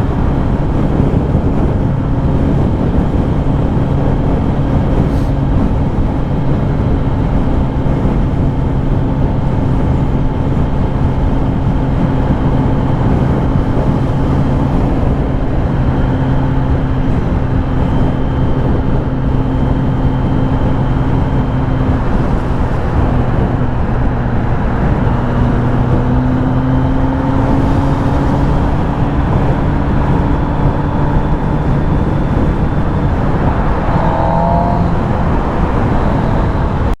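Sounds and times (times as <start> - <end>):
motorcycle engine cruising: 0.0 - 37.0
wind and road noise: 0.0 - 37.0.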